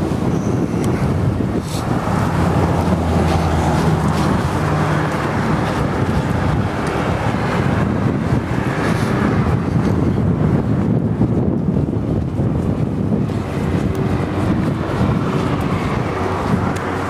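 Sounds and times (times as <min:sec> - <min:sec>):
low engine hum: 0:00.0 - 0:17.0
road traffic going by: 0:00.0 - 0:17.0
wind buffeting microphone: 0:00.0 - 0:17.0.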